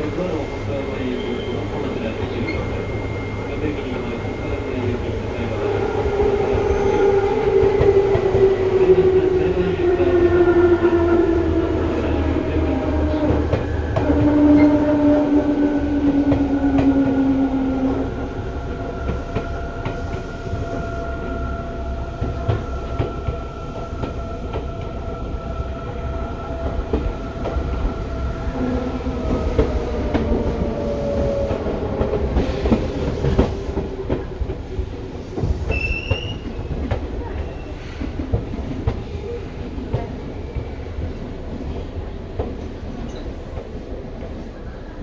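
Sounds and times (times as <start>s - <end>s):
electric train whine: 0.0s - 37.0s.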